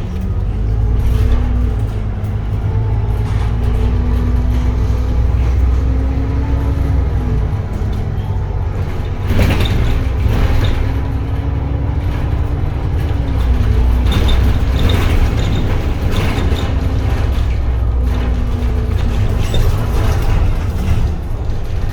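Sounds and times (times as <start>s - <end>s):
bus engine rumble with whine: 0.0s - 21.9s
rattling noise: 0.0s - 21.9s.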